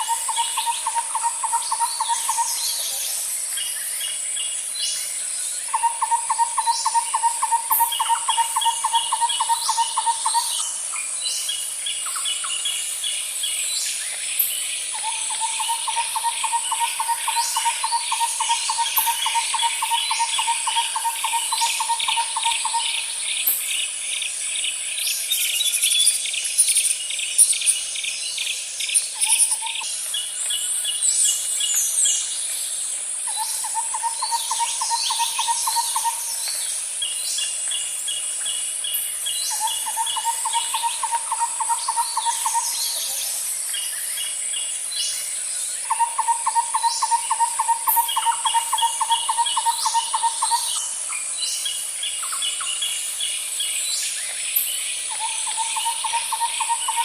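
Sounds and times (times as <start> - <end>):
birds chirping and trilling: 0.0 - 57.0
high insect hiss: 0.0 - 57.0.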